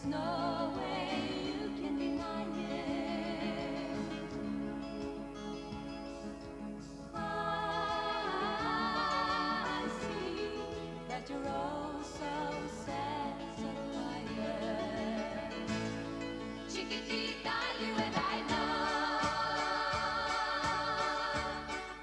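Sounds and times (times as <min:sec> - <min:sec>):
pop song from speakers: 0:00.0 - 0:04.8, 0:07.1 - 0:16.1, 0:16.7 - 0:22.0.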